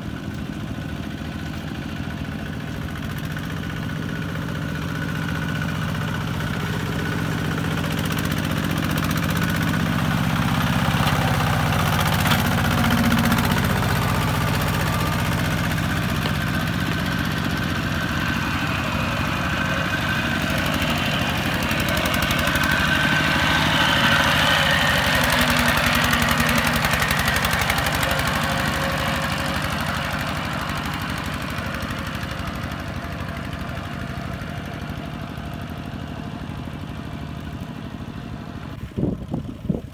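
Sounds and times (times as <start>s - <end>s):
diesel tractor engine under load: 0.0s - 39.9s.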